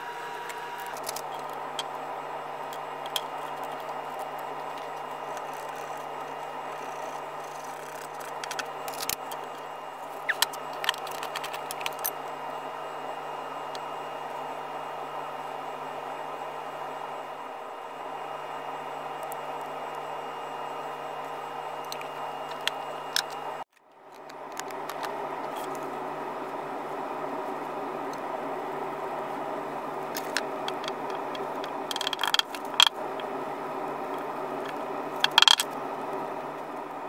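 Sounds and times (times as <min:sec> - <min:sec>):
room noise hiss and hum: 0:00.0 - 0:37.0.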